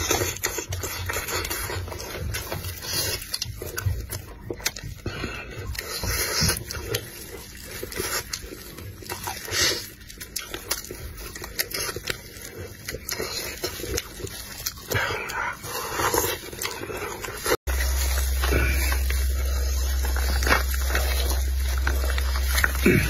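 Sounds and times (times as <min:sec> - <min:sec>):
chewing chicken off the bone: 0:00.0 - 0:23.0.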